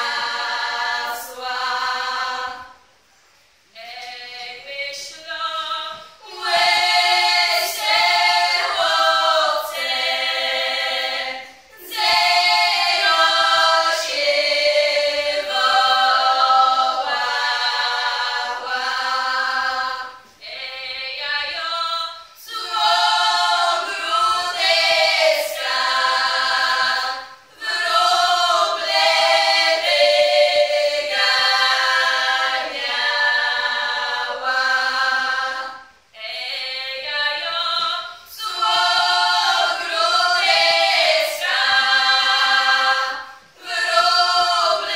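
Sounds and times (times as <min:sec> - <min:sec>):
women singing unaccompanied: 0:00.0 - 0:02.9, 0:03.7 - 0:44.9.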